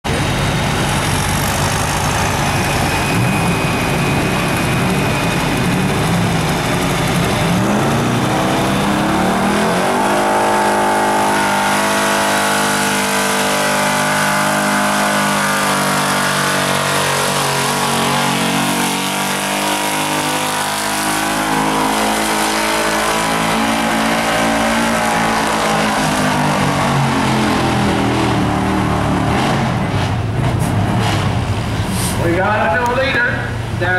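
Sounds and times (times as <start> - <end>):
truck engine at high revs: 0.0 - 33.9.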